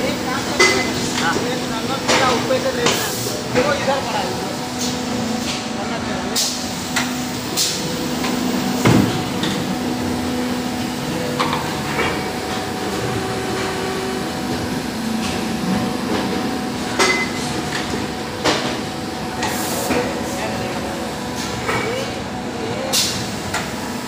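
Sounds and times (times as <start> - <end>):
machine hum: 0.0 - 22.8.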